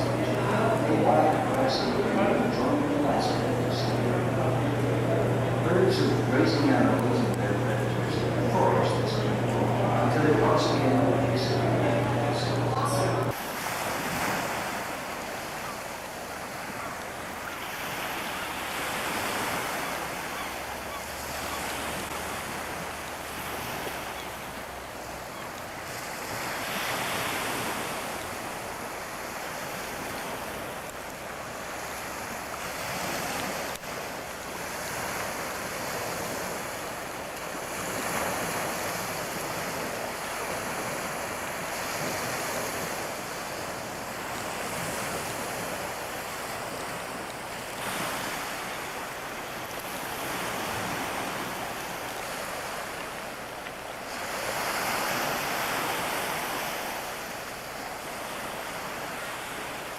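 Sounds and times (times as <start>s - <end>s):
waves washing in: 0.0s - 59.9s.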